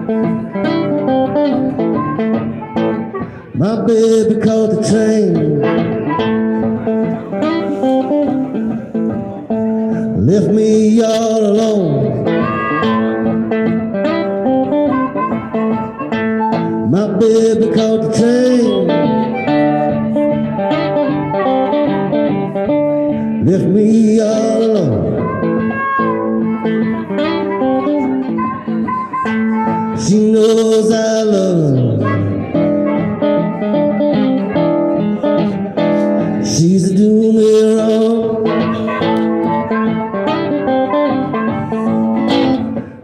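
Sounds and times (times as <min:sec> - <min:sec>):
acoustic guitar picking: 0:00.0 - 0:43.0
harmonica sliding notes: 0:00.0 - 0:43.0.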